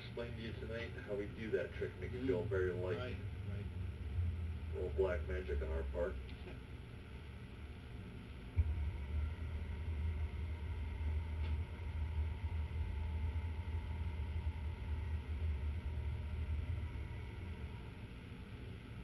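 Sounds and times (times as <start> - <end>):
centrifuge low rumble: 0.0 - 19.0.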